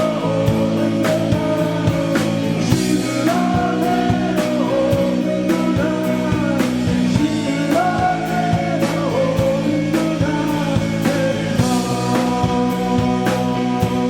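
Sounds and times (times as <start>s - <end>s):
distorted guitars: 0.0s - 14.0s
drum beat: 0.0s - 14.0s
person singing: 0.0s - 14.0s.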